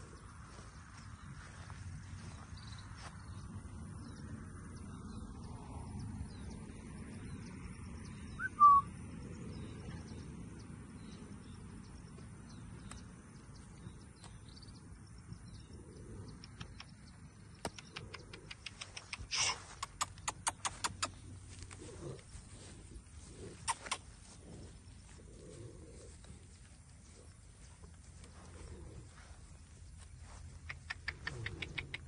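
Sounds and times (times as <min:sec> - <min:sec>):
bird chirp: 0:00.0 - 0:32.0
low outdoor rumble: 0:00.0 - 0:32.0.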